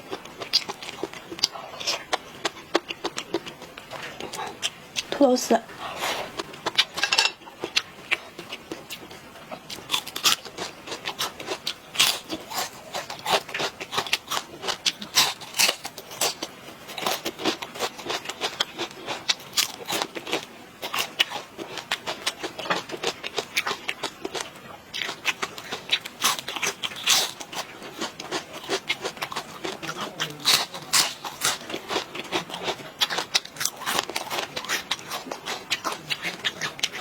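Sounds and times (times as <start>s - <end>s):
person chewing with wet smacks: 0.0s - 5.2s, 6.2s - 37.0s.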